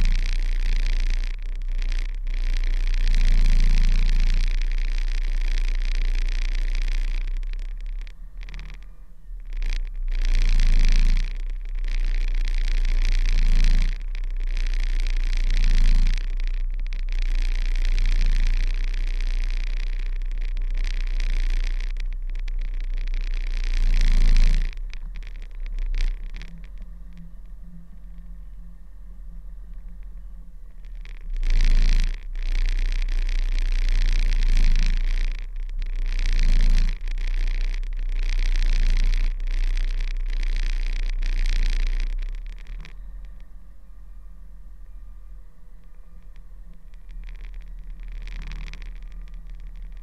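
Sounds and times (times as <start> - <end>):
truck engine rumble: 0.0 - 50.0.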